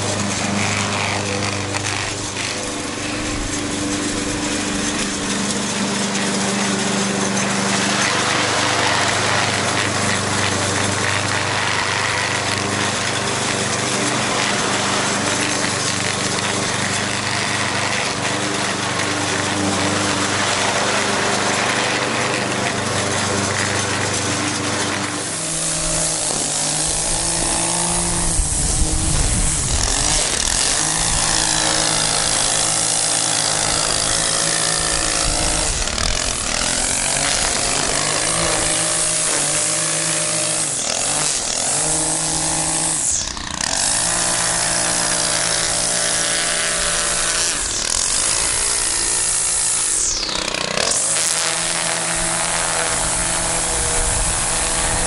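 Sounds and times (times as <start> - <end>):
push mower engine running: 0.0 - 55.0
string trimmer engine revving: 0.0 - 55.0.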